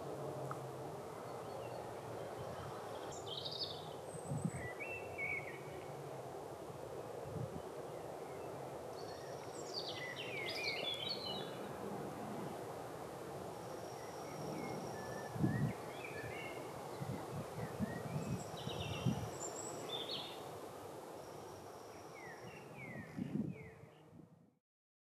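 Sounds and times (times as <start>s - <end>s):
outdoor background hiss: 0.0s - 24.5s.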